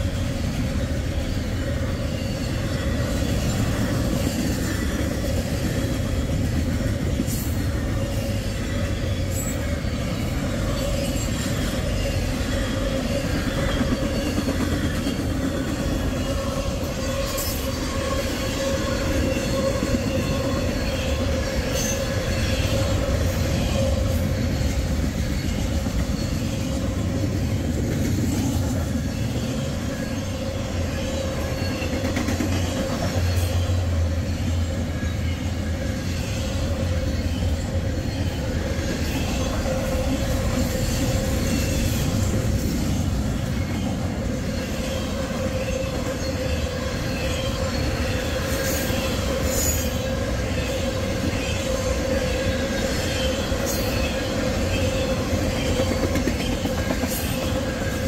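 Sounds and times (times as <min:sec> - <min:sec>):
train cars clanking: 0:00.0 - 0:58.0
train wheels rumbling on rails: 0:00.0 - 0:58.0.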